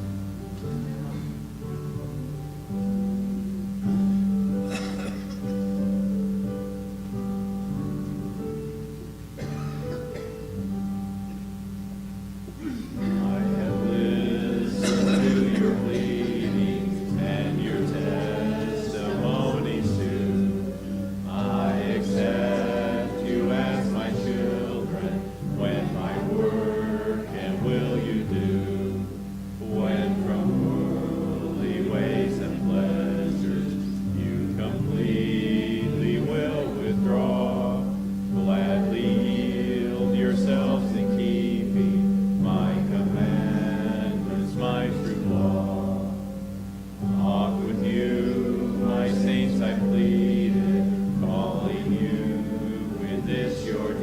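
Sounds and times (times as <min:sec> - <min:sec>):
congregation singing a hymn: 0:00.0 - 0:08.7, 0:12.3 - 0:54.0
piano accompaniment: 0:00.0 - 0:54.0.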